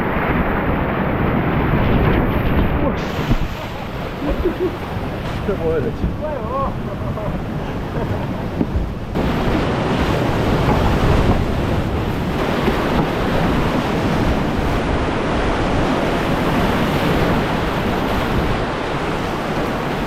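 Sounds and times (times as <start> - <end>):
river rapids rushing: 1.6 - 20.0.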